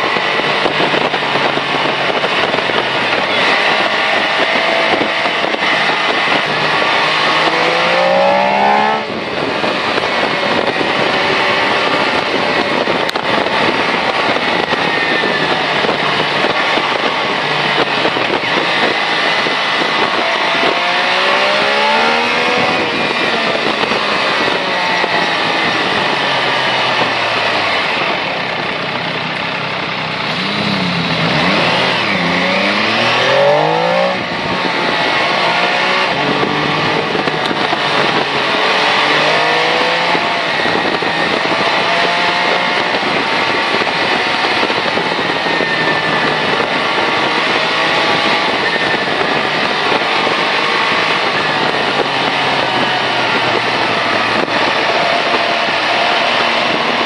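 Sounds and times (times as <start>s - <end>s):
motorcycle engine accelerating hard: 0.0s - 57.0s
steady rush of noise: 0.0s - 57.0s.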